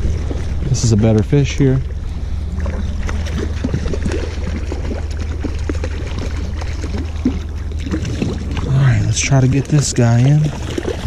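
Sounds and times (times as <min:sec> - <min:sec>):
stream water running: 0:00.0 - 0:11.0
water splashing and gurgling: 0:00.0 - 0:11.0.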